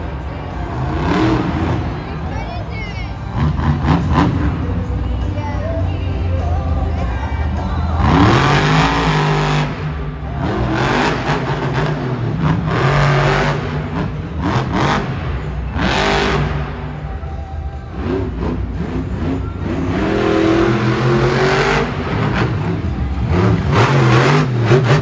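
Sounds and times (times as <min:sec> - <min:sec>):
monster truck engine revving: 0:00.0 - 0:02.3, 0:03.1 - 0:05.3, 0:06.2 - 0:25.0.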